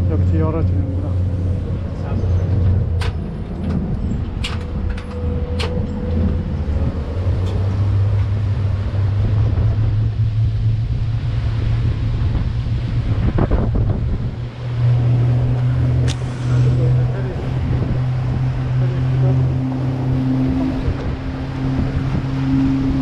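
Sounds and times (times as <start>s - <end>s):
boat engine drone: 0.0s - 23.0s.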